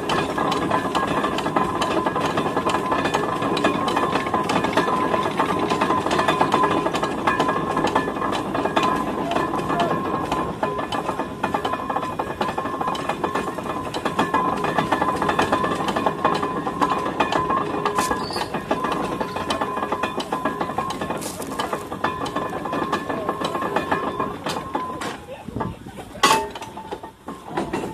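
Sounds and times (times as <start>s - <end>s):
drum and gearing clattering: 0.0s - 27.9s.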